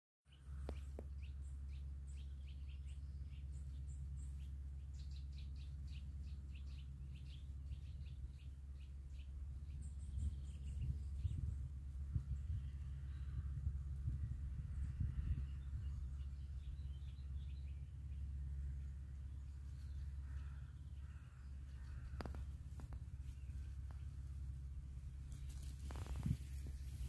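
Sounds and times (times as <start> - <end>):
small birds chirping: 0.3 - 27.0
steady low rumble: 0.3 - 27.0.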